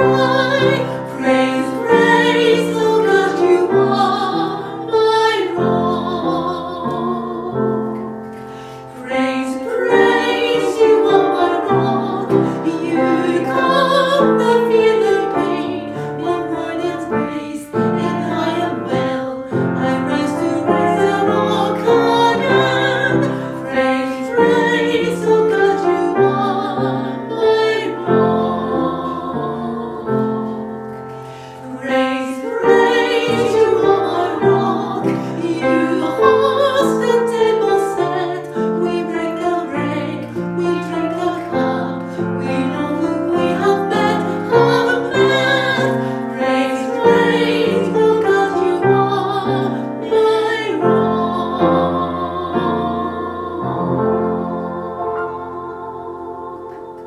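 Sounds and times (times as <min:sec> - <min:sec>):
woman singing a hymn in harmony: 0:00.0 - 0:08.2, 0:08.9 - 0:57.0
upright piano accompaniment: 0:00.0 - 0:57.0.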